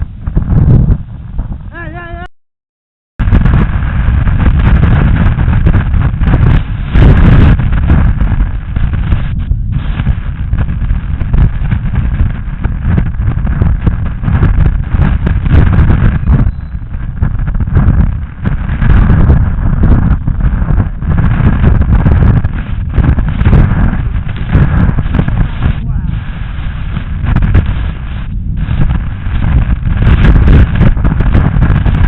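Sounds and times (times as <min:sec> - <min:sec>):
wind buffeting microphone: 0:00.0 - 0:02.3, 0:03.2 - 0:32.0.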